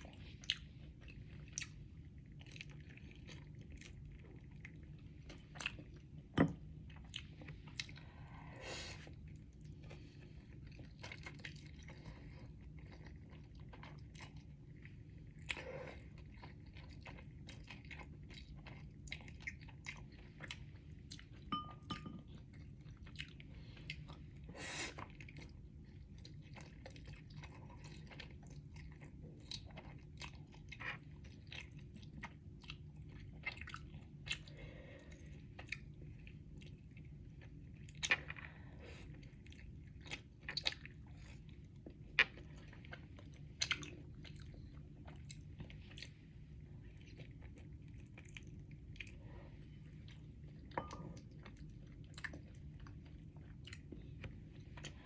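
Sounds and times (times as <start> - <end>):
person chewing noodles: 0.0 - 55.0
steady low hum: 0.0 - 55.0.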